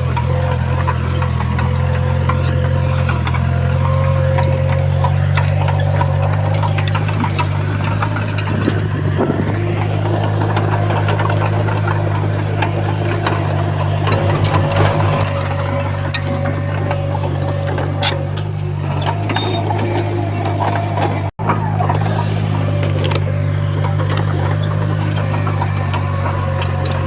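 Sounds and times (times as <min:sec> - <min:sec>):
earthmoving machine diesel engine: 0:00.0 - 0:27.0
metallic clanks and clicks: 0:00.0 - 0:27.0.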